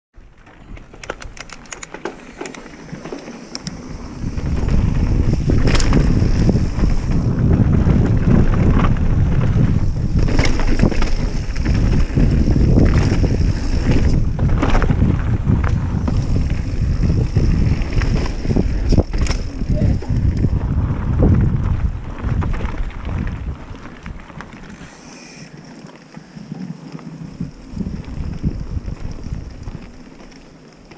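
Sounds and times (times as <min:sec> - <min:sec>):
bike clicks and rattles: 0:00.2 - 0:30.9
tyres on rough ground: 0:00.2 - 0:30.9
wind buffeting microphone: 0:00.6 - 0:25.6, 0:26.4 - 0:30.3.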